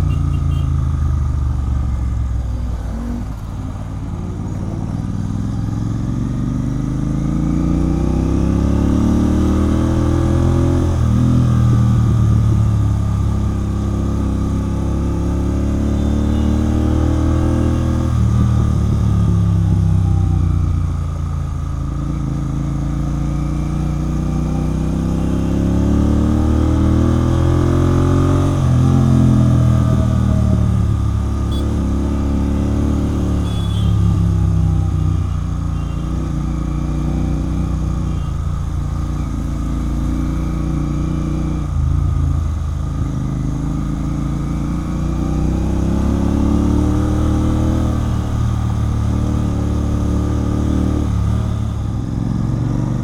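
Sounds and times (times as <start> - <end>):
motorcycle engine revving through gears: 0.0 - 53.0.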